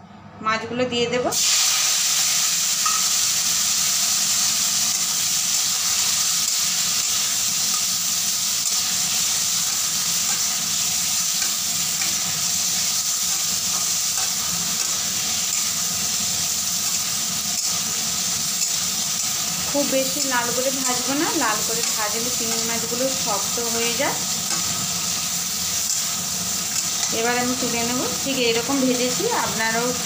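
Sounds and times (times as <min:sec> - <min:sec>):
prawns sizzling in oil: 0:01.3 - 0:30.0.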